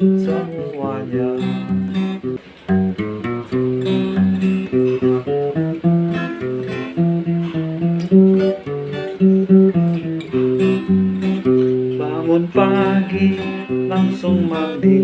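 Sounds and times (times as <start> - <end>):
guitar playing chords: 0.0 - 15.0.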